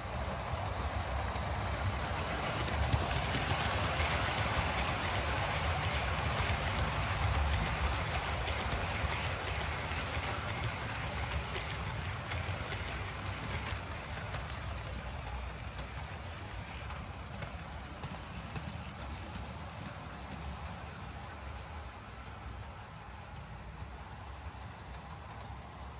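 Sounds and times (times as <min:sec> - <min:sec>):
model train wheels rumbling: 0:00.0 - 0:25.9
rapid clicking from track: 0:00.0 - 0:25.9.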